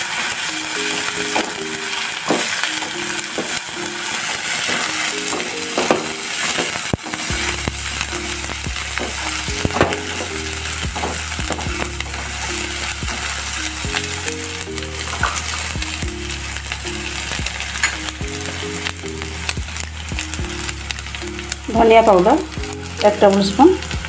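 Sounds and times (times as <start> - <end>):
light background music: 0.0 - 24.0
onions sizzling in hot oil: 0.0 - 24.0.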